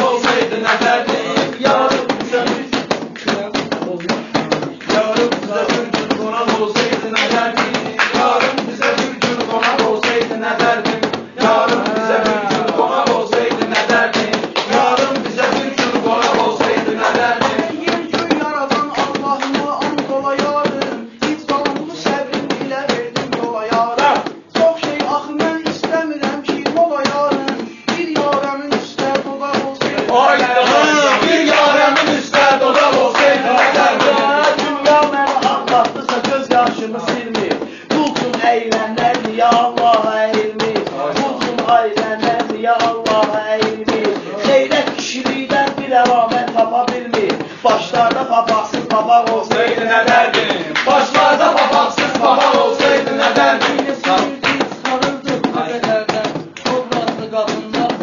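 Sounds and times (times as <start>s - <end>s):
fast beat of sharp taps: 0.0s - 58.0s.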